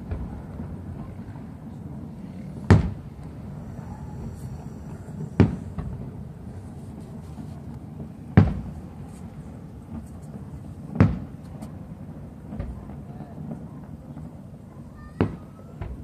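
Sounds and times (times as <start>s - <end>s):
firework shells bursting with rumble: 0.0s - 14.6s.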